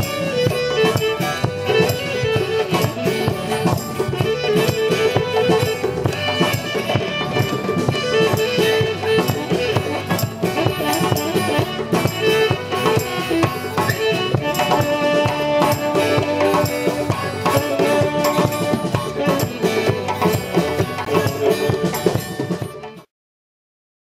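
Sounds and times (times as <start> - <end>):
acoustic guitar: 0.0 - 23.1
hand drums beating: 0.0 - 23.1.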